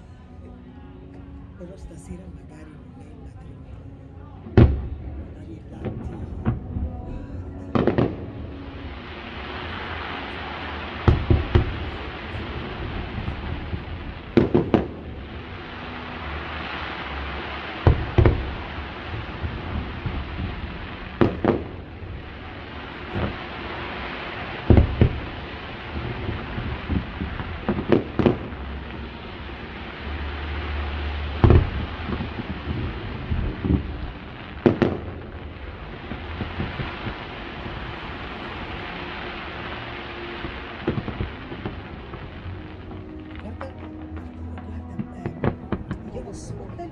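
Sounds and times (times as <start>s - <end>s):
fireworks bursting with sharp bangs: 4.5s - 46.6s.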